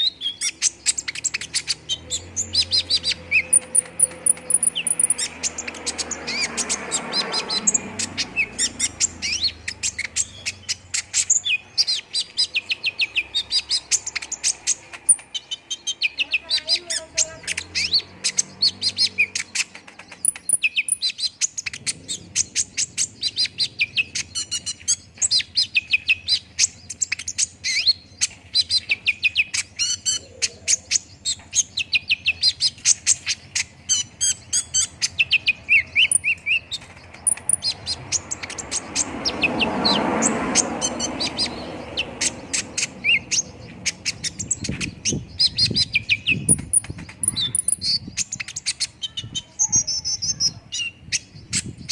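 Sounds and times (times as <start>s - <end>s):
sunbird chirps and trills: 0.0s - 51.9s.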